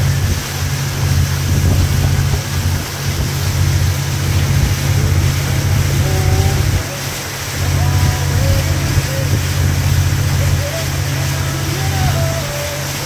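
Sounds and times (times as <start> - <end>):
water rushing past boat: 0.0 - 13.0
wind buffeting microphone: 0.0 - 13.0.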